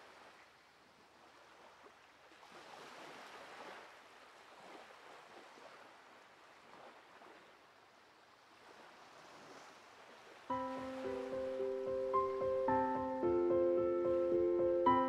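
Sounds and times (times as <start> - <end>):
faint ocean surf: 0.0 - 15.0.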